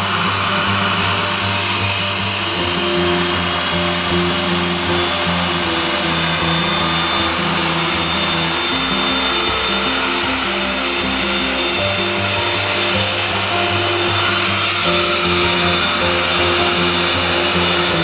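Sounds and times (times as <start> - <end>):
background music with stepping melody: 0.0 - 18.0
jet engines whining: 0.0 - 18.0.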